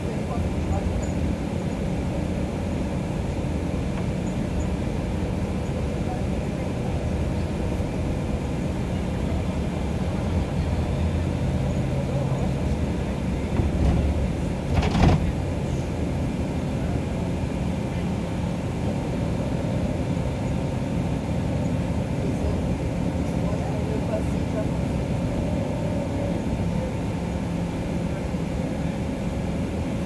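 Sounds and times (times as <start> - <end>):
bus engine drone: 0.0 - 30.0
road noise: 0.0 - 30.0.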